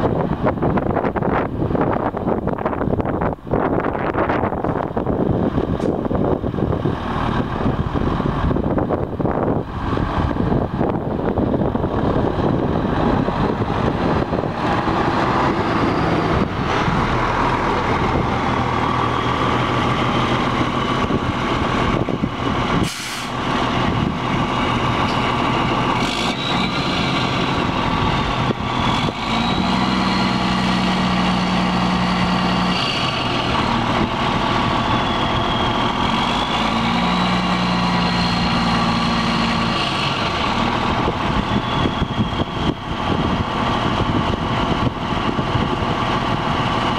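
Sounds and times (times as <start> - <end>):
truck diesel engine: 0.0 - 46.9
wind on microphone: 0.0 - 46.9.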